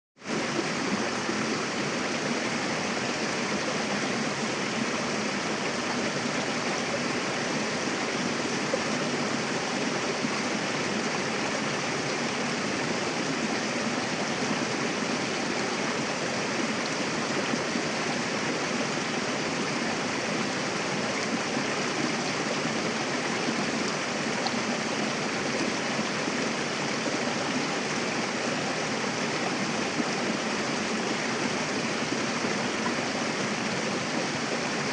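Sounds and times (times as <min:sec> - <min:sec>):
river rushing over rocks: 0:00.2 - 0:34.9.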